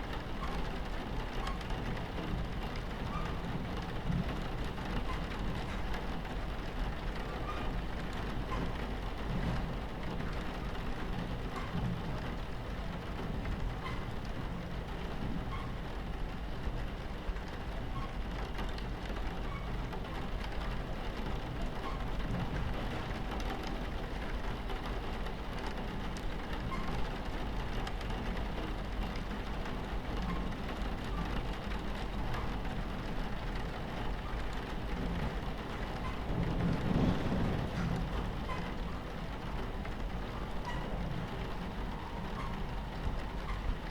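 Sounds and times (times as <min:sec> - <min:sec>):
rain on window: 0:00.0 - 0:43.9
train rumbling on tracks: 0:00.0 - 0:43.9.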